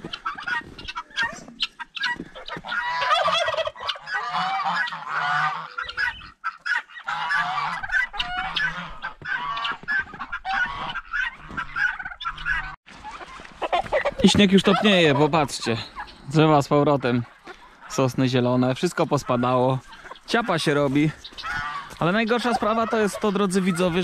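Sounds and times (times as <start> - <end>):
guinea fowl and poultry calling: 0.0 - 24.0.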